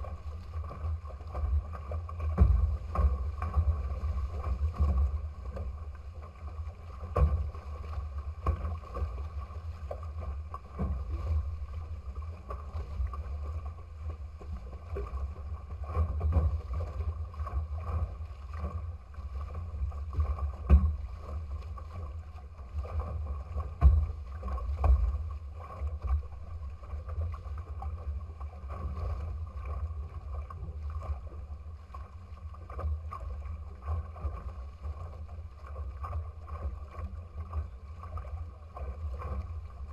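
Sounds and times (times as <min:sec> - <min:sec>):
water rushing past hulls: 0:00.0 - 0:39.9
waves slapping hull: 0:00.0 - 0:39.9
wind rumble on microphone: 0:00.0 - 0:39.9.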